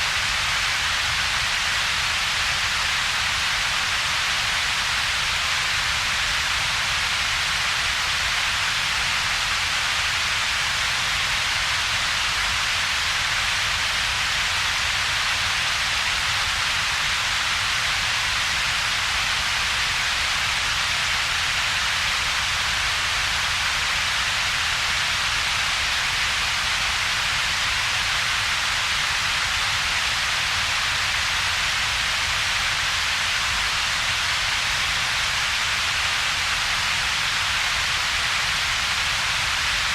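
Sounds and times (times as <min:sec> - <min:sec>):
steady synthetic hiss: 0:00.0 - 0:39.9.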